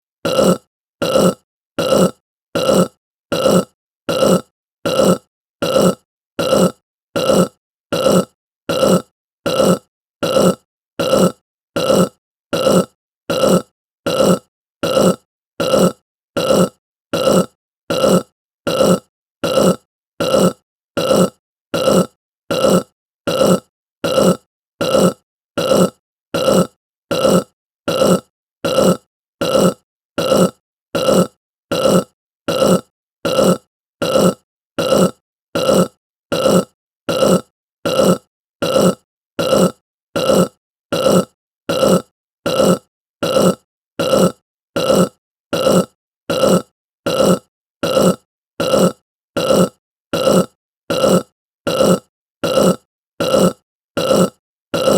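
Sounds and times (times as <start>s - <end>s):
person burping: 0.2s - 54.9s.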